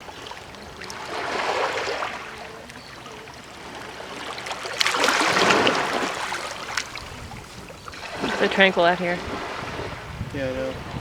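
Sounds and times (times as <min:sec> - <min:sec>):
waves washing over rocks: 0:00.0 - 0:11.0.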